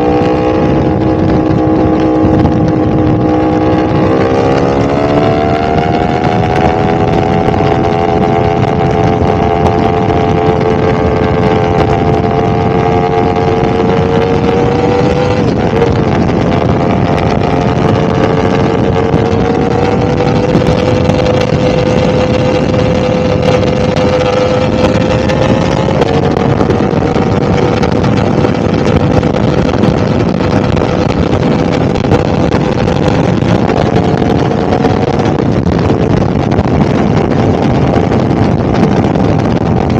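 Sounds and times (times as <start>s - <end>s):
motorcycle engine at speed: 0.0s - 39.9s
wind rush: 0.0s - 39.9s.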